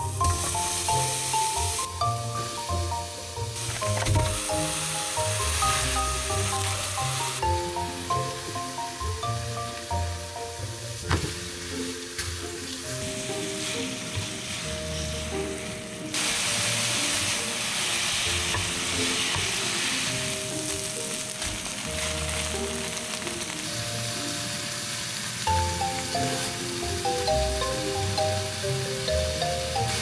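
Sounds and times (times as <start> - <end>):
food sizzling in a pan: 0.0 - 30.0
soft background music: 0.0 - 30.0.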